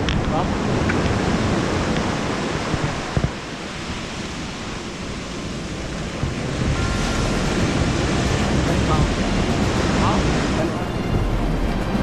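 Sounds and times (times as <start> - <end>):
surf on gravel beach: 0.0 - 11.2
wind buffeting microphone: 0.0 - 12.0.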